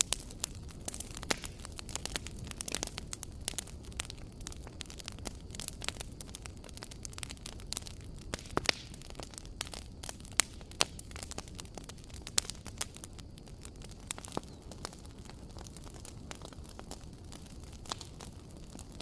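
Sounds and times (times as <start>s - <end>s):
fire crackling in fireplace: 0.0s - 19.0s
sharp fire pops: 0.0s - 19.0s.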